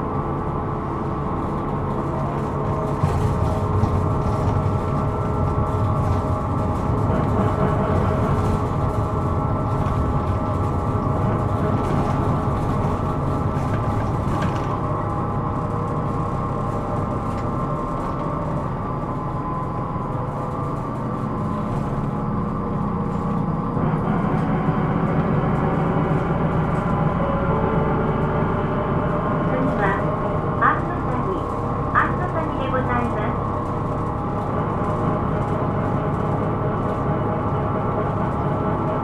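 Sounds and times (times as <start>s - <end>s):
bus engine drone: 0.0s - 39.0s.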